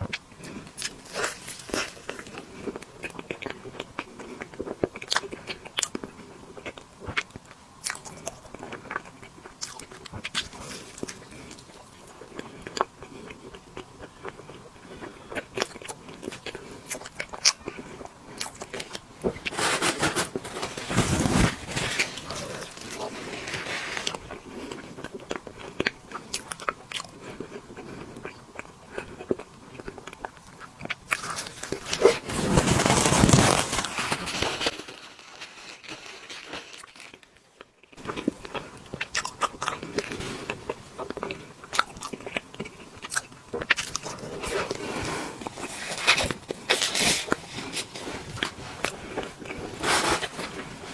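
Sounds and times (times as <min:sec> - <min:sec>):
person chewing cake: 0:00.0 - 0:32.3, 0:35.6 - 0:50.9.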